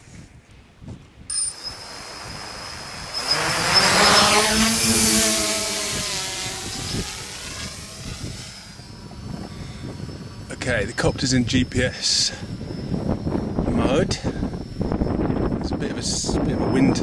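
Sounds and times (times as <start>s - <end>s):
quadcopter motors whining: 1.3s - 17.0s.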